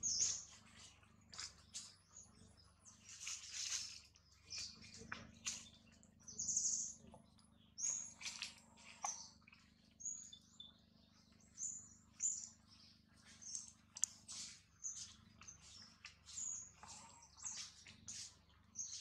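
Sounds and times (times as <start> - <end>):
birds chirping high calls: 0.0 - 19.0.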